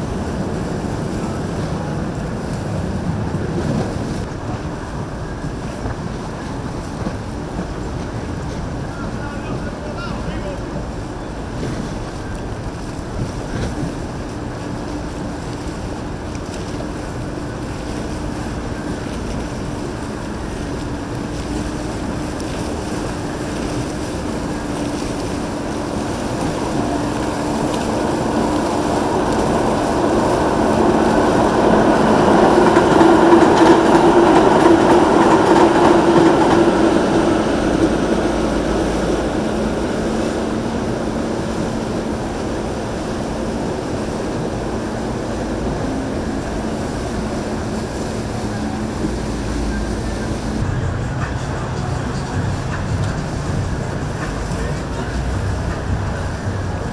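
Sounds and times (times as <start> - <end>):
boat engines running: 0.0 - 56.9
water wash: 0.0 - 56.9.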